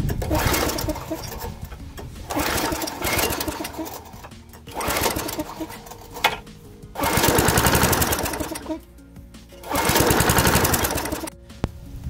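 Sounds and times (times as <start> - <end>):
small mower engine surging: 0.0 - 6.4, 7.0 - 8.8, 9.6 - 11.3.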